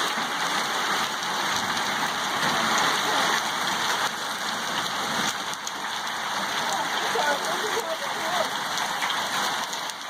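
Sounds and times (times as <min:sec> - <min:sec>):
heavy rain and hail: 0:00.0 - 0:10.0.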